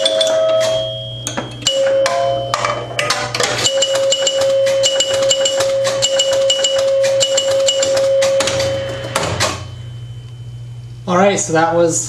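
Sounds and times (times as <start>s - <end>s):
pinball machine relays clicking: 0.0s - 9.7s
steady ringing tone: 0.0s - 11.5s.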